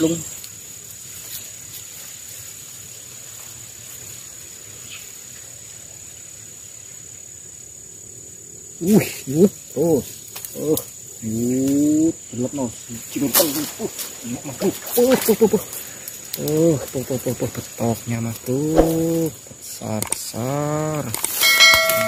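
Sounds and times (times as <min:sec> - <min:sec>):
faint hiss: 0:00.0 - 0:22.0
high-pitched insect drone: 0:00.0 - 0:22.0.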